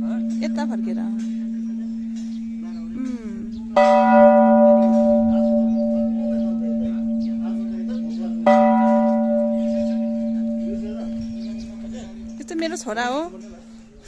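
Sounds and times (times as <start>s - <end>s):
large bell ringing: 0.0s - 13.7s.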